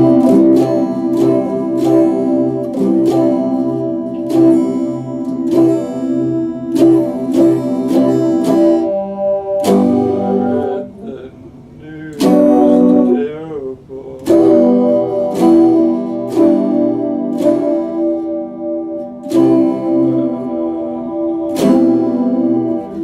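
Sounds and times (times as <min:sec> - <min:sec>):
electric guitar strumming chords: 0:00.0 - 0:23.0.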